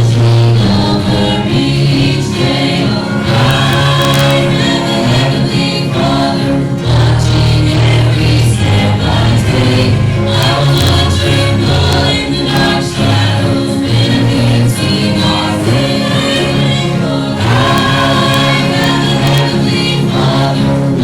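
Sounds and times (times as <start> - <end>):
congregation singing a hymn: 0.0 - 21.0
instrumental accompaniment: 0.0 - 21.0
steady bass line: 0.0 - 21.0.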